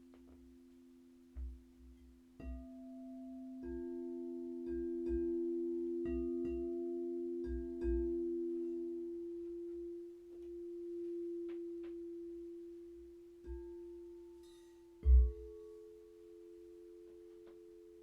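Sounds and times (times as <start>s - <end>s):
lower ringing tone: 3.2s - 18.0s.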